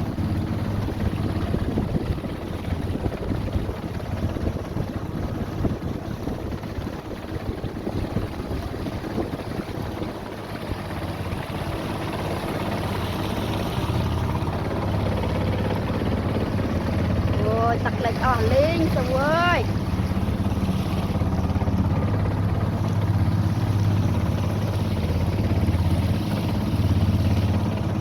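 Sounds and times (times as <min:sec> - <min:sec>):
boat motor humming: 0:00.0 - 0:28.0
wind on microphone: 0:00.0 - 0:28.0.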